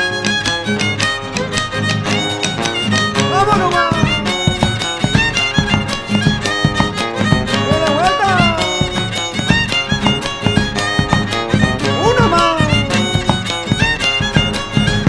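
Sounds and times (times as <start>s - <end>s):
fiddle melody: 0.0s - 15.0s
rhythmic band accompaniment: 0.0s - 15.0s.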